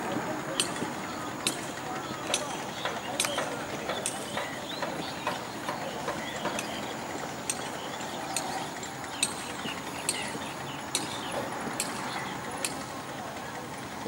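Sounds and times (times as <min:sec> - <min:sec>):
river ambience: 0:00.0 - 0:14.0
sharp rhythmic knocks: 0:00.5 - 0:13.0.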